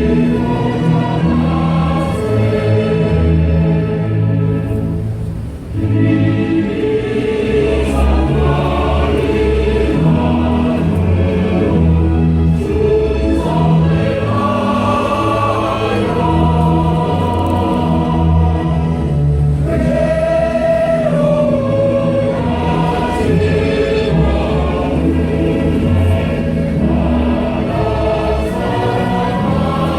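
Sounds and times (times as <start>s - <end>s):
choir singing slow song: 0.0s - 29.9s.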